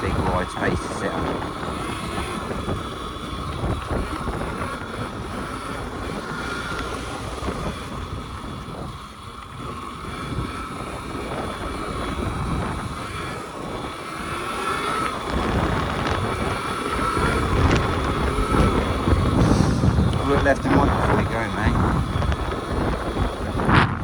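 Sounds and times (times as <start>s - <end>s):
electric motor whine: 0.0s - 24.0s
wind buffeting microphone: 0.0s - 24.0s.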